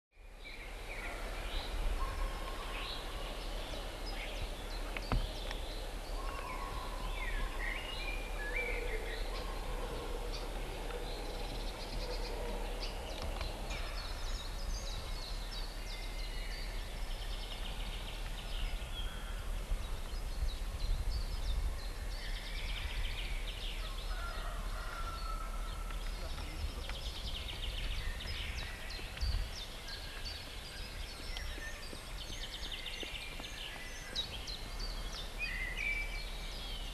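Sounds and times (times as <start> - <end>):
birds chirping and trilling: 0.2 - 36.9.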